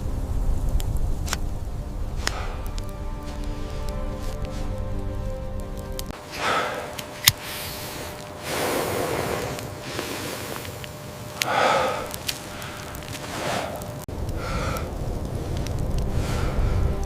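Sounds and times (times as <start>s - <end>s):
low steady hum: 0.0s - 17.0s
person breathing heavily: 2.2s - 5.2s, 6.2s - 17.0s.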